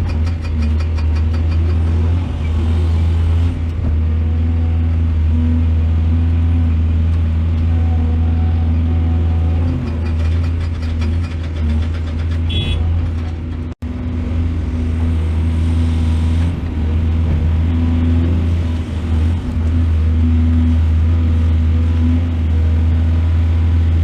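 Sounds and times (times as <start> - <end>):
excavator diesel engine droning: 0.0 - 24.0.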